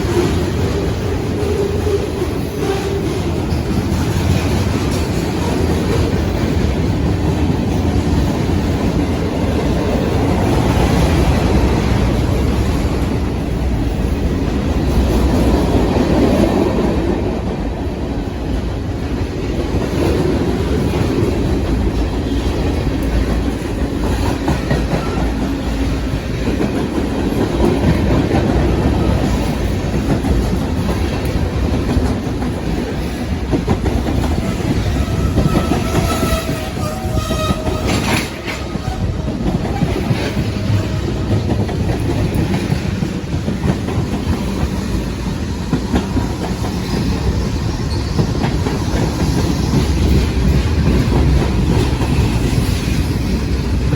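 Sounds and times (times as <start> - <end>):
train cars rumbling by: 0.0 - 53.9.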